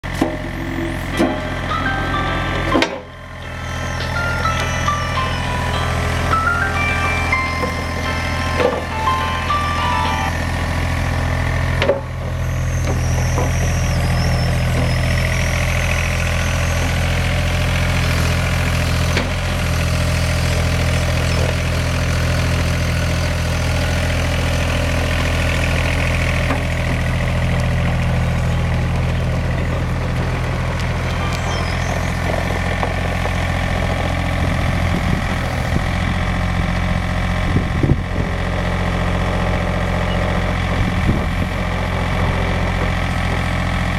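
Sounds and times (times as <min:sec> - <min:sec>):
excavator diesel engine idling: 0:00.0 - 0:43.9.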